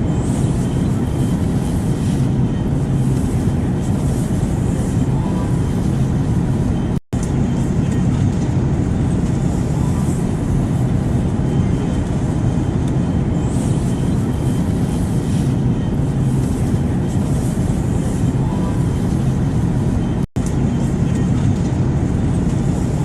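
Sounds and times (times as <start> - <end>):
airplane noise rumble and hiss: 0.0 - 23.0.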